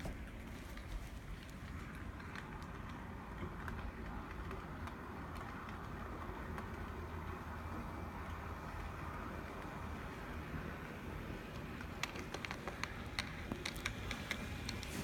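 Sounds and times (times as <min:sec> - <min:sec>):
wheels clicking on rails: 0:00.0 - 0:15.0
model locomotive motor humming: 0:01.4 - 0:15.0.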